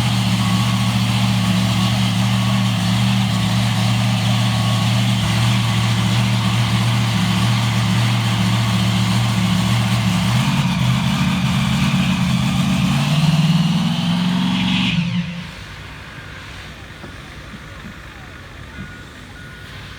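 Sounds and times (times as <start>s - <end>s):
monster truck engine idling: 0.0s - 13.9s, 15.0s - 19.9s.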